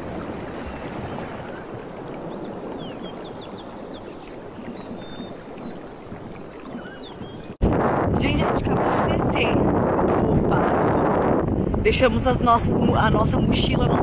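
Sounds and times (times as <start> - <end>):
water on seashore: 0.0 - 14.0
wind: 0.0 - 14.0.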